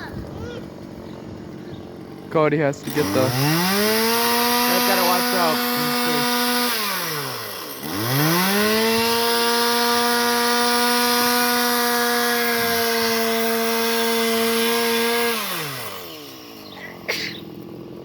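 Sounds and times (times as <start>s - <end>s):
chainsaw revving: 0.4s - 18.0s.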